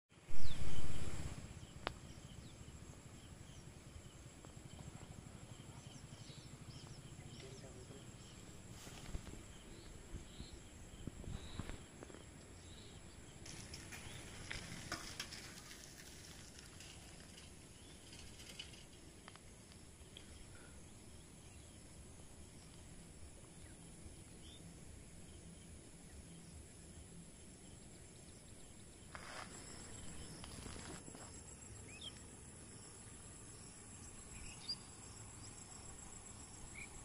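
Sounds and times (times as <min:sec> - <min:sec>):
high insect drone: 0:00.2 - 0:37.0.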